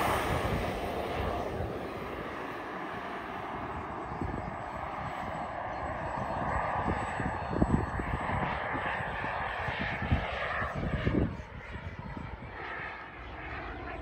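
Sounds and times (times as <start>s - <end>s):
model jet turbine rushing: 0.0s - 14.0s.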